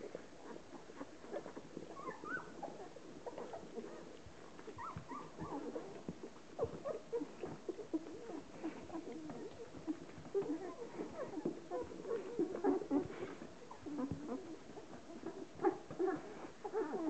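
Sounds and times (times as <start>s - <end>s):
dog licking puppies: 0.0s - 17.0s
puppies squeaking and whimpering: 0.1s - 17.0s.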